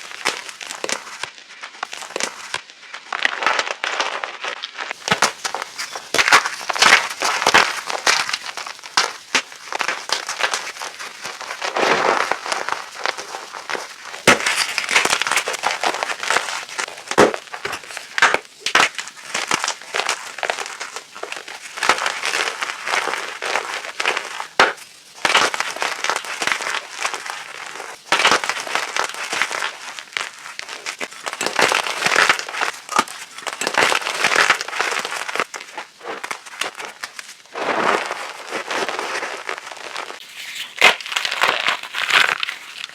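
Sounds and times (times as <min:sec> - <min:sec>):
chalk blocks crunching: 0:00.0 - 0:04.3, 0:04.9 - 0:42.9.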